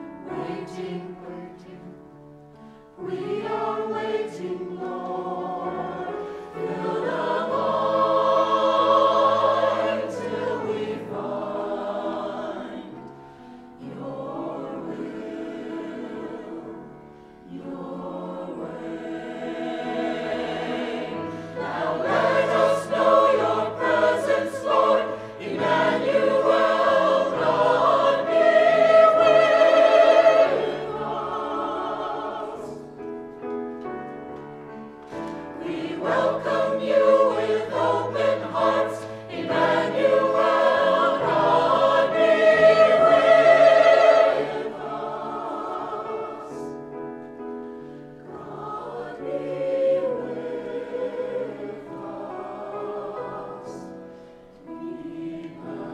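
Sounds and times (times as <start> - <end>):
choir singing with accompaniment: 0.0 - 55.9.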